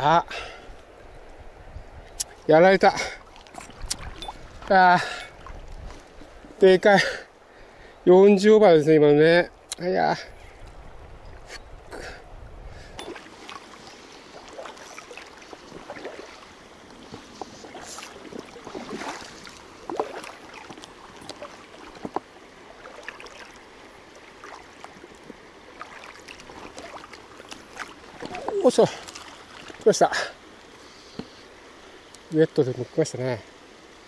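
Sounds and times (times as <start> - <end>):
water splashing and sloshing: 0.0 - 7.8, 9.3 - 32.8
river current flowing: 0.0 - 34.0.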